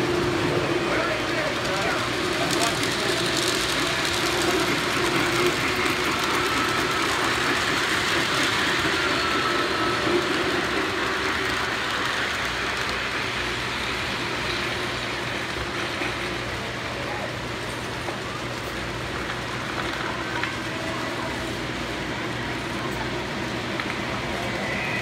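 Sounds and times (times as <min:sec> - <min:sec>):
model train running on track: 0:00.0 - 0:25.0.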